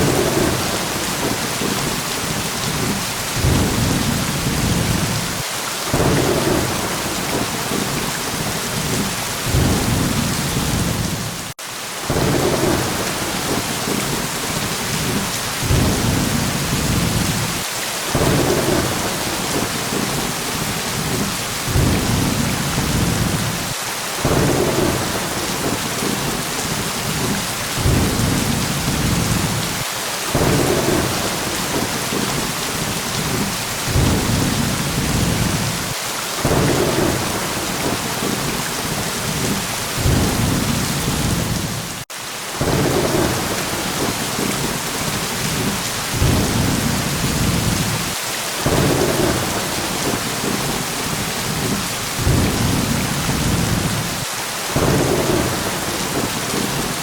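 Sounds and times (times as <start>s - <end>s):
thunder rumbling: 0.0s - 11.5s, 12.1s - 42.0s, 42.6s - 57.0s
heavy rain: 0.0s - 57.0s.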